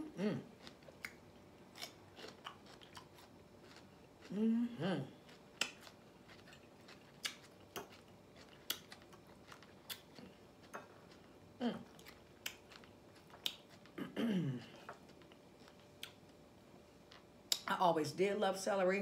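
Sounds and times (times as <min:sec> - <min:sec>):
chewing raw vegetables crunching: 0:00.4 - 0:17.6.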